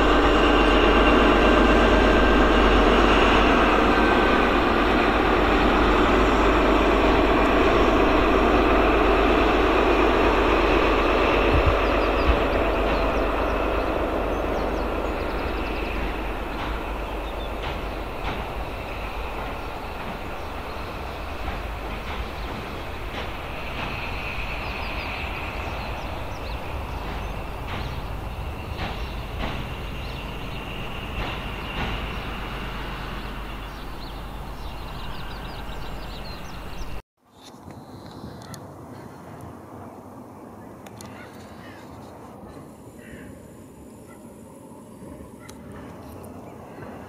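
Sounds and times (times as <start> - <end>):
diesel train rumble: 0.0 - 37.0, 38.2 - 47.0.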